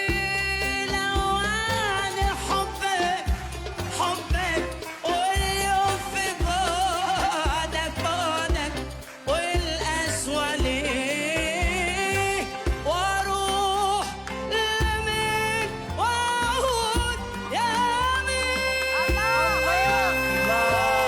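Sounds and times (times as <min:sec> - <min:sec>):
pulsing bass beat: 0:00.0 - 0:21.0.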